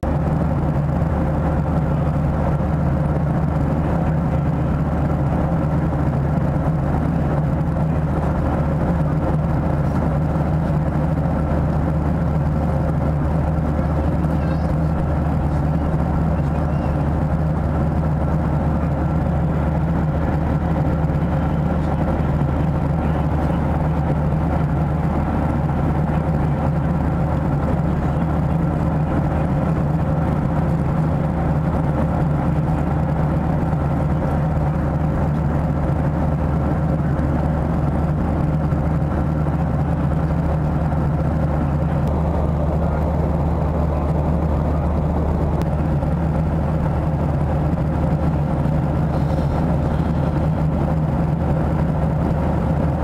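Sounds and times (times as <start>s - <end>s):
airflow roar in aircraft cabin: 0.0s - 53.0s
jet engine hum: 0.0s - 53.0s.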